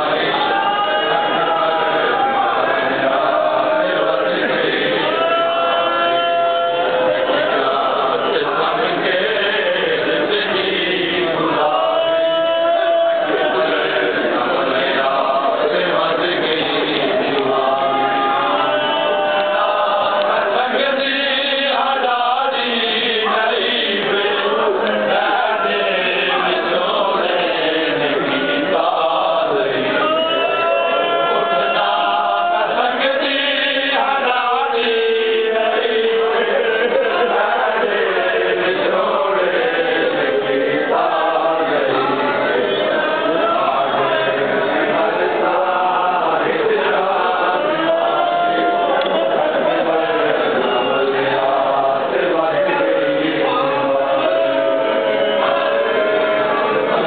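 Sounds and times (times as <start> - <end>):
voices chanting a lament in unison: 0.0 - 57.0.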